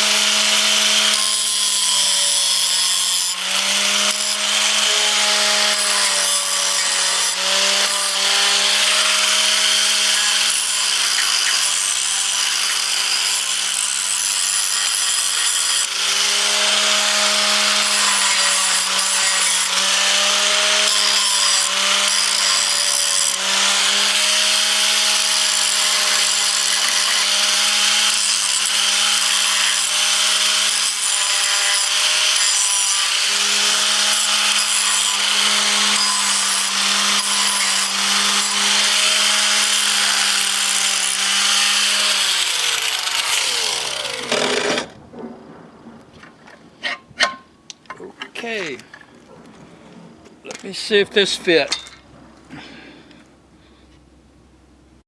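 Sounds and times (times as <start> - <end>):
angle grinder grinding metal: 0.0 - 45.0.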